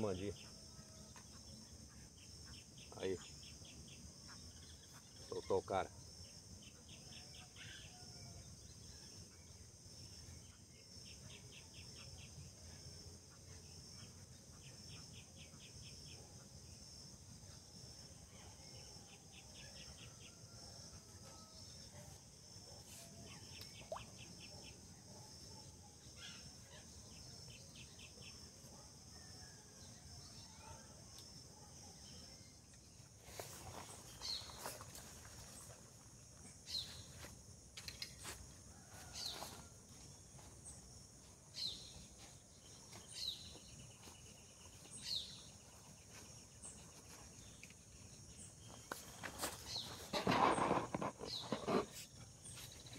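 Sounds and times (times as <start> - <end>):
rapid insect chirps: 0.0 - 52.9.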